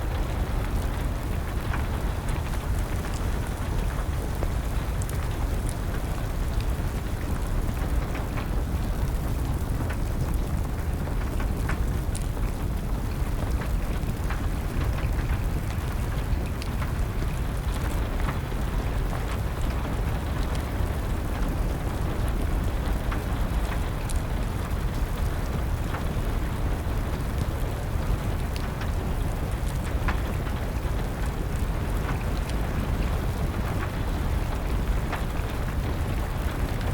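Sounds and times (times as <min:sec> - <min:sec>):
steady rain: 0:00.0 - 0:36.9
wood fire crackling: 0:00.0 - 0:36.9.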